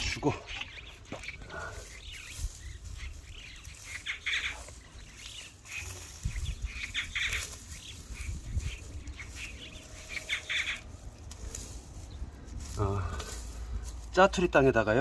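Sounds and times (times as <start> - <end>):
hands scraping stony soil: 0.0 - 14.5
dry grass rustling: 0.0 - 15.0.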